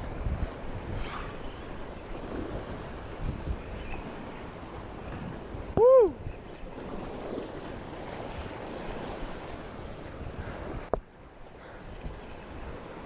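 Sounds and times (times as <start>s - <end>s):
sea water lapping: 0.0s - 13.0s
wind on microphone: 0.0s - 13.0s.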